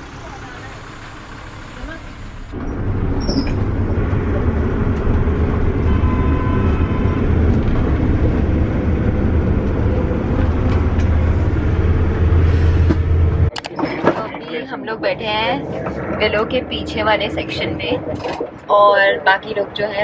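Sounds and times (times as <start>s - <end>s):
low engine drone: 0.0s - 20.0s
road rumble: 0.0s - 20.0s.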